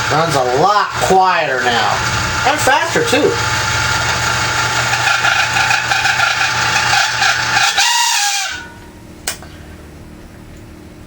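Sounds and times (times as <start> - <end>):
exhaust fan motor squealing: 0.0 - 11.0.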